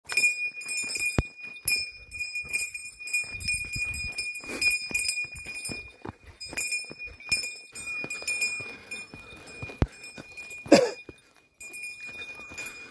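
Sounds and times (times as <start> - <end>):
bear bell jingling: 0.0 - 12.9
footsteps on dirt trail: 0.1 - 12.9.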